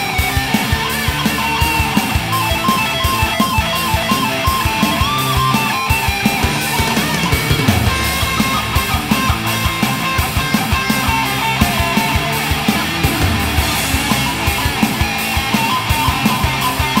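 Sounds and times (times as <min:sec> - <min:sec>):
electric guitar: 0:00.0 - 0:17.0
steady drum beat: 0:00.0 - 0:17.0.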